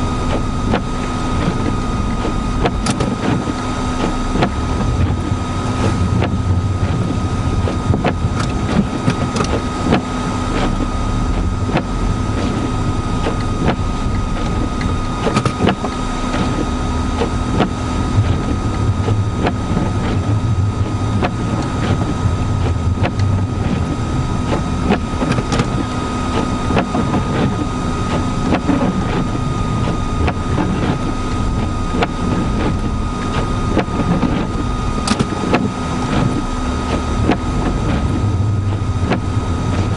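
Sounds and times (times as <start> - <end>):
engine and road rumble: 0.0 - 39.9
thin whine: 0.0 - 39.9.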